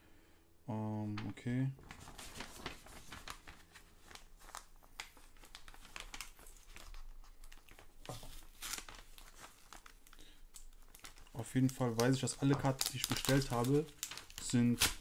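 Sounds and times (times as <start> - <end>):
paper rustling and crinkling: 1.2 - 15.0.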